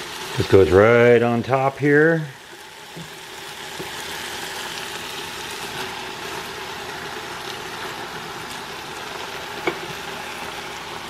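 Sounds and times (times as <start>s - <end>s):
vegetables sizzling in pot: 0.0s - 11.0s.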